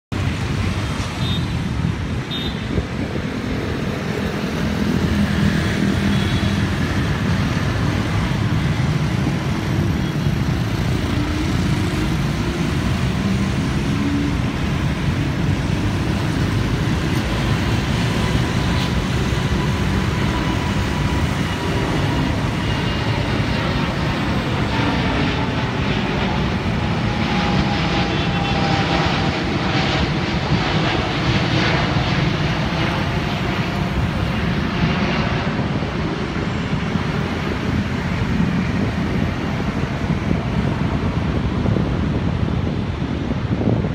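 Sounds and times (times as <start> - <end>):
jet taking off overhead: 0.1 - 43.9.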